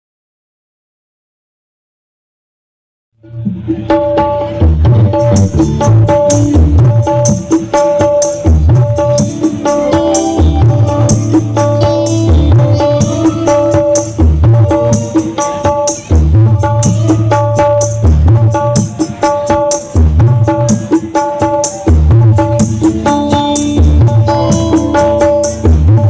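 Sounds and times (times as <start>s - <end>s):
loud bass-heavy music: 3.2s - 15.4s, 16.0s - 21.1s, 21.8s - 26.0s
hand-drum rhythm: 3.2s - 26.0s.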